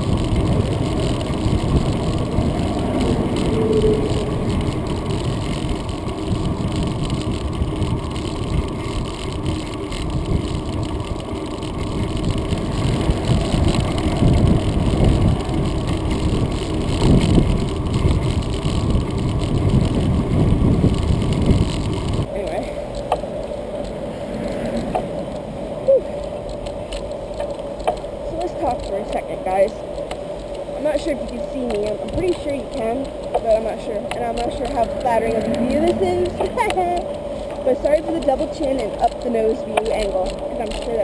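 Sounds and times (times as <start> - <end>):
bicycle riding rumble: 0.0 - 41.0
wind buffeting: 0.0 - 41.0.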